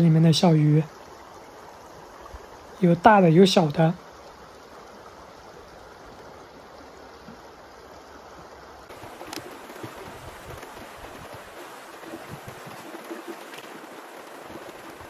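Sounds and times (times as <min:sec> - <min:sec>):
river water over rocks: 0:00.0 - 0:15.0.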